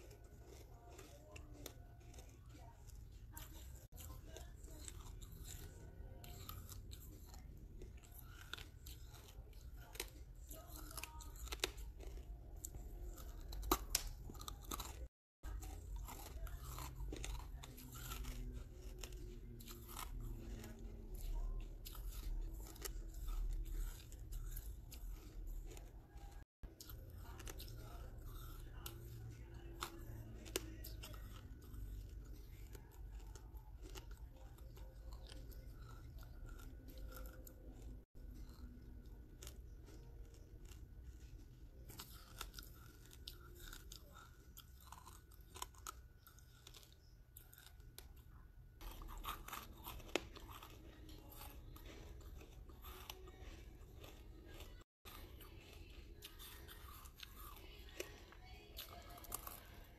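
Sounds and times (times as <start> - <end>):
brick crunching in mouth: 0.0 - 48.2, 48.8 - 59.9.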